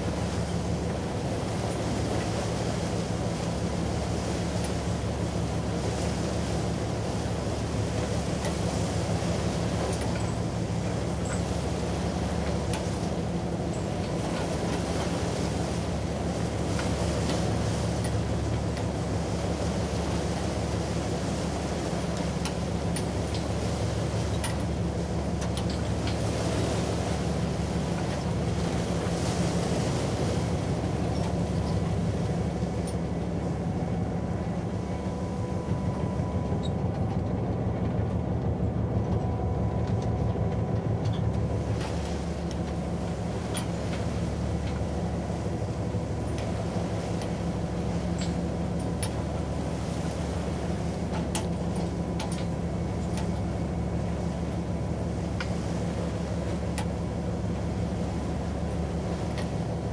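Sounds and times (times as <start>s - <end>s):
ship rumbling through sea ice: 0.0s - 59.9s.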